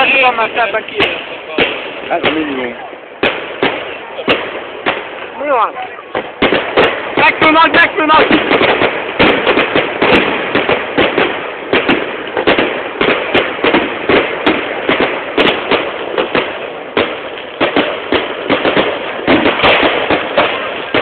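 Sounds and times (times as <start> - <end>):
fireworks crackling: 0.0 - 21.0
loud firework reports: 0.0 - 21.0.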